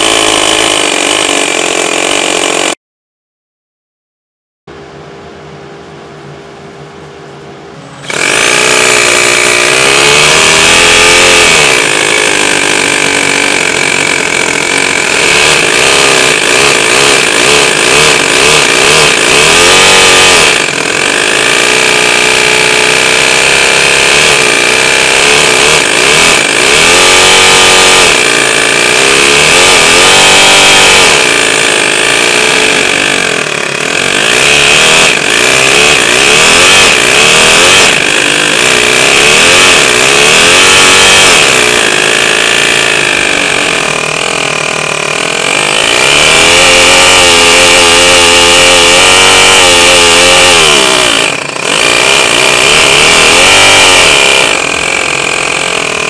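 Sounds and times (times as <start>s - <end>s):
model engine revving: 0.0s - 2.8s, 8.0s - 56.0s
supercharger high whine: 4.7s - 56.0s.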